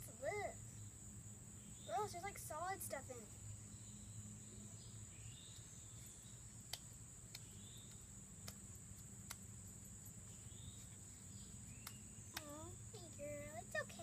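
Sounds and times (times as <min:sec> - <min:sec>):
high-pitched insect trill: 0:00.0 - 0:14.0.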